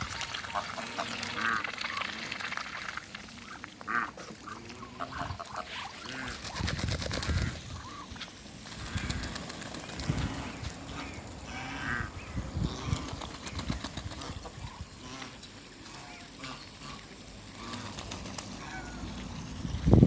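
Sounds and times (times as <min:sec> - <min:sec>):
ducks quacking: 0:00.0 - 0:02.5, 0:03.4 - 0:09.4, 0:10.0 - 0:13.3, 0:14.1 - 0:19.2.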